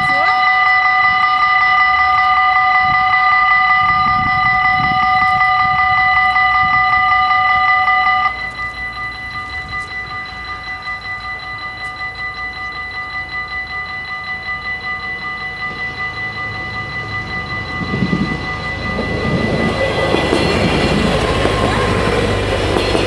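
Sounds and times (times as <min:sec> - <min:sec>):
level crossing bells clanging: 0:00.0 - 0:23.0.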